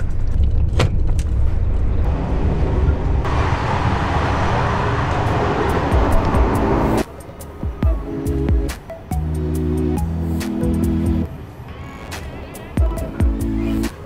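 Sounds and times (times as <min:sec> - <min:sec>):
train carriage running noise: 0:00.0 - 0:14.0
moving train rushing: 0:01.6 - 0:14.0.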